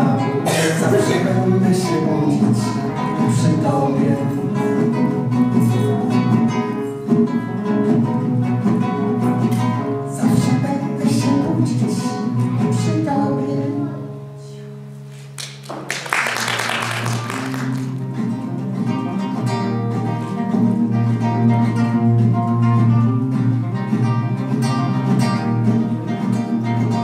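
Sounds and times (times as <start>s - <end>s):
acoustic guitar playing: 0.0s - 27.0s.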